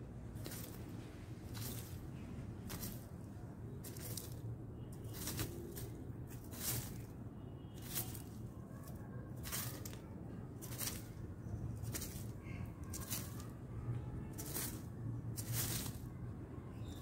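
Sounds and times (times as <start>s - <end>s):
dry leaves rustling: 0.2s - 17.0s.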